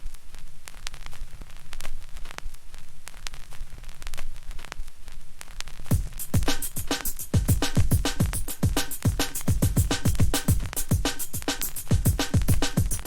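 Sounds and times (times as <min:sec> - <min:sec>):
static hiss: 0:00.0 - 0:13.0.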